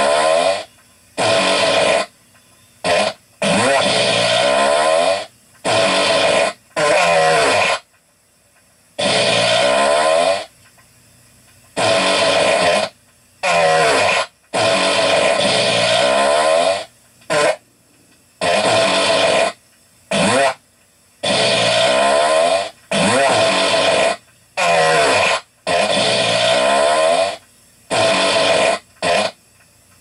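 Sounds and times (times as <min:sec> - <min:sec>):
rasping fart sounds: 0:00.0 - 0:02.1, 0:02.8 - 0:07.9, 0:09.0 - 0:10.6, 0:11.8 - 0:17.6, 0:18.4 - 0:20.6, 0:21.2 - 0:29.4.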